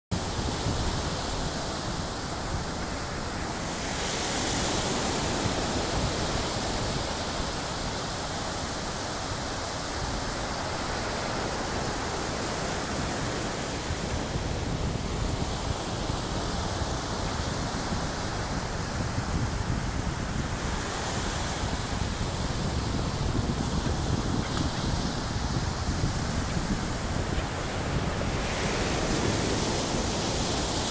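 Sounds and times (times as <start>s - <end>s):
wind rumbling on microphone: 0.1s - 30.9s
small surf breaking on sand: 0.2s - 30.9s.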